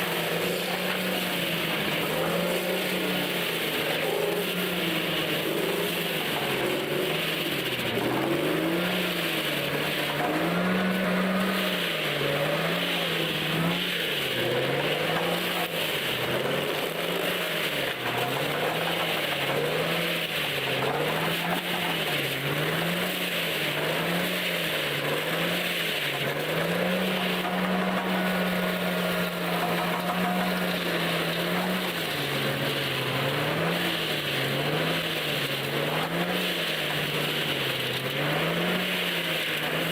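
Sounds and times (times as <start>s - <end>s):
heavy machine engine under load: 0.0s - 39.9s.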